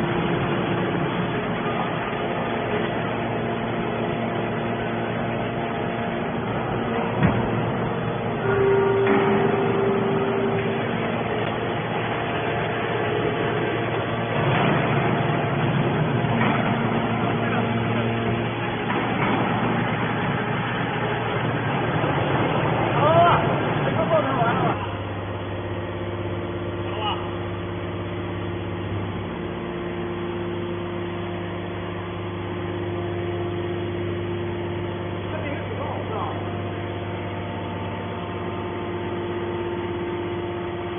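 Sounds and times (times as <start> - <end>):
hydraulic baler running: 0.0 - 40.9.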